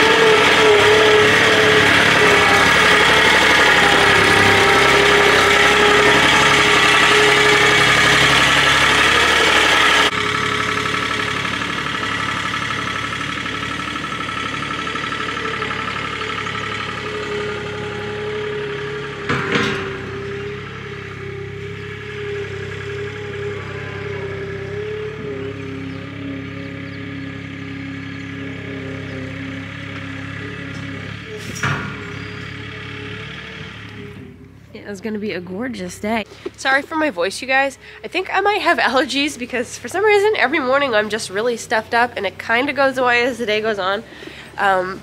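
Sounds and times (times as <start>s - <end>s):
skid steer engine whine: 0.0s - 45.0s.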